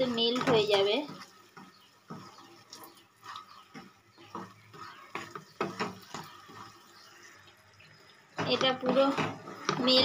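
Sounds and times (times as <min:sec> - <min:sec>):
wooden spatula scraping a pan: 0:00.0 - 0:10.0.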